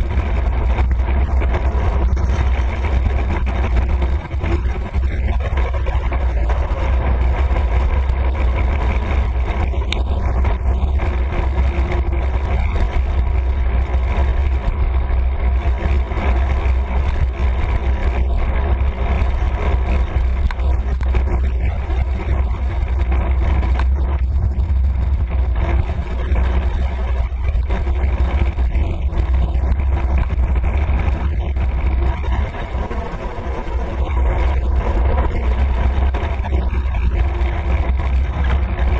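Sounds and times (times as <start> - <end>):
road noise: 0.0 - 38.9
wind rumble on microphone: 0.0 - 38.9.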